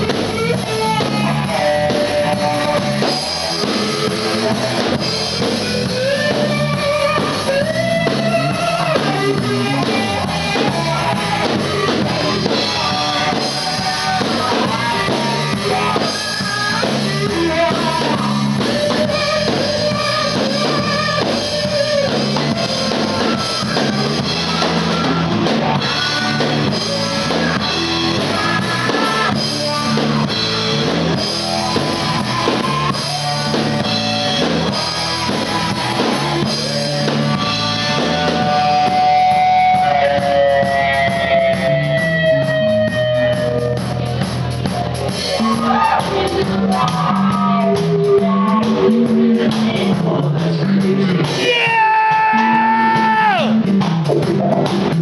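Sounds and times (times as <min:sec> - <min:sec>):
drum kit: 0:00.0 - 0:55.0
electric guitars: 0:00.0 - 0:55.0
live rock band playing: 0:00.0 - 0:55.0.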